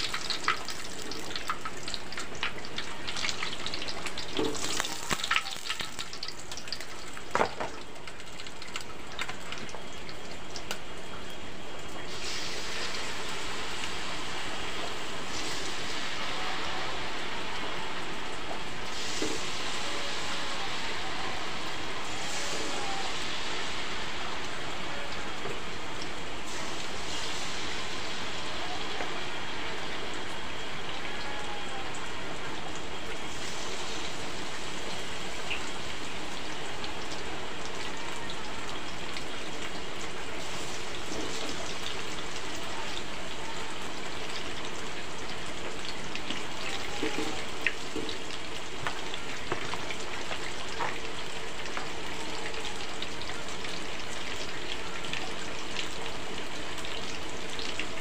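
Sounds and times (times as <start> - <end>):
food sizzling in hot oil: 0.0 - 58.0
heavy rain hissing: 11.5 - 58.0.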